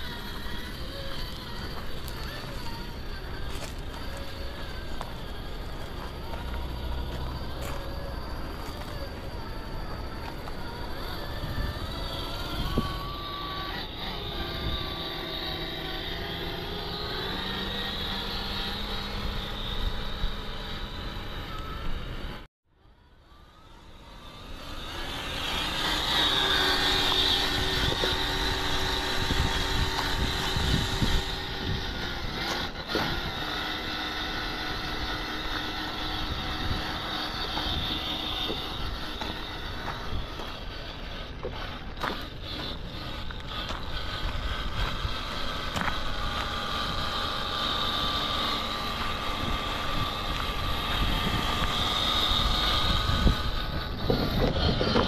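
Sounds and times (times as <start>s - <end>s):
electric motor whining: 0.0s - 55.0s.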